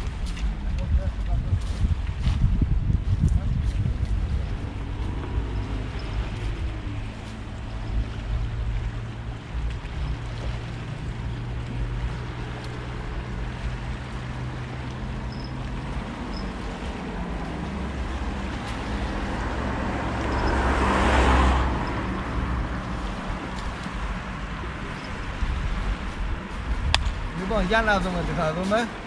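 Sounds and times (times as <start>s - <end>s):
low engine hum: 0.0s - 29.0s
wind: 0.0s - 29.0s.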